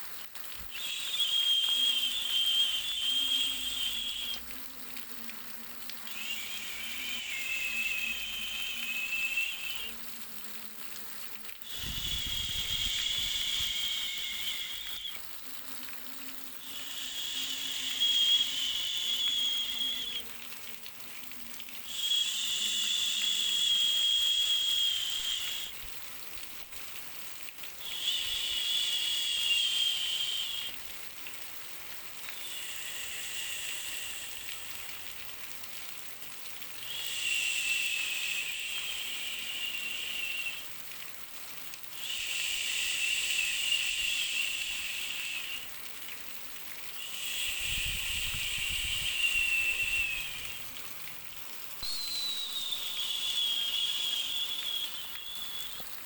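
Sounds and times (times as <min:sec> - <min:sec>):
white noise hissing: 0:00.0 - 0:41.0, 0:41.6 - 0:56.0
faint whistling tone: 0:00.1 - 0:11.0, 0:11.6 - 0:26.0, 0:27.8 - 0:30.9, 0:32.1 - 0:35.2, 0:36.8 - 0:41.0, 0:42.0 - 0:46.2, 0:46.9 - 0:51.1, 0:51.8 - 0:56.0.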